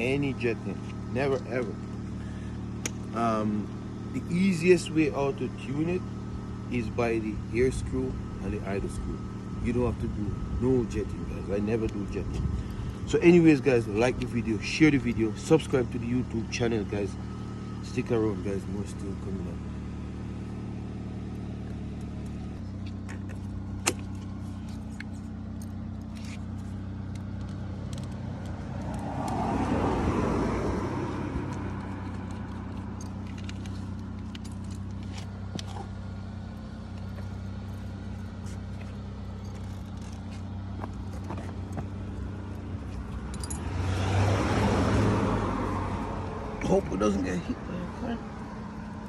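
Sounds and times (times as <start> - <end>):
vehicles passing by: 0.0 - 49.0.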